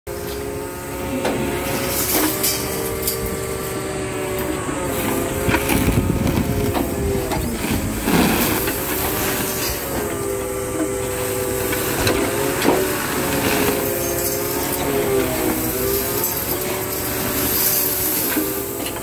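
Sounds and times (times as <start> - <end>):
hydraulic machine whine: 0.1 - 19.0
falling scrap metal crunch: 0.3 - 10.3, 11.3 - 19.0.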